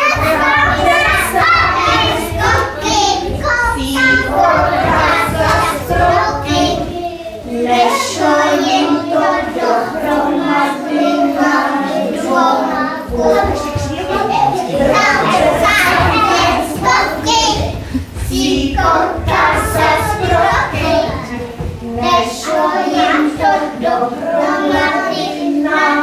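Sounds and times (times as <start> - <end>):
women and children singing: 0.0 - 26.0.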